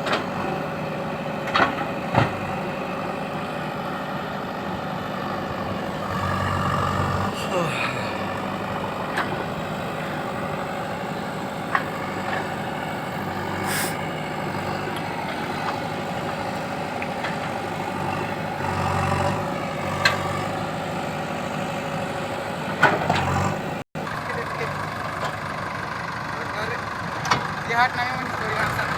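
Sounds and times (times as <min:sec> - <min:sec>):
heavy diesel engine running: 0:00.0 - 0:28.9.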